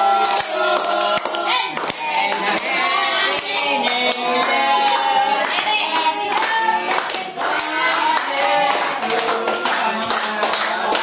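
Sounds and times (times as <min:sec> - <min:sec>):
group singing: 0:00.0 - 0:11.0
hands clapping: 0:00.2 - 0:11.0.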